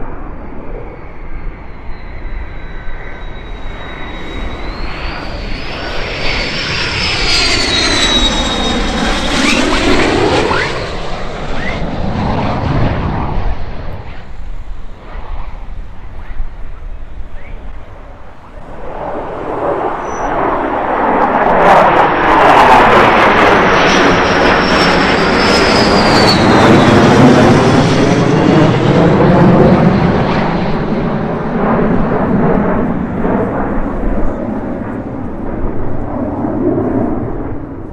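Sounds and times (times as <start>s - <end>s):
high whistle from jet engine: 0.0s - 37.9s
jet engine rumble: 0.0s - 37.9s.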